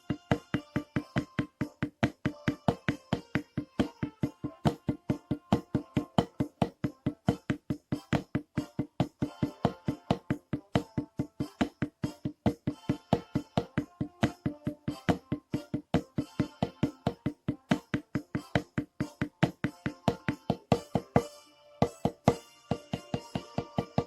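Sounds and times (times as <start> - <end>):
snare drum rhythm: 0.0 - 24.0.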